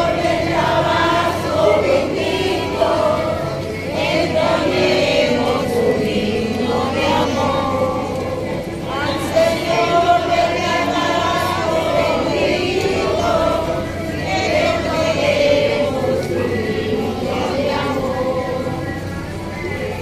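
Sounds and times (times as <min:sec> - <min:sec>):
crowd singing a hymn: 0:00.0 - 0:20.0.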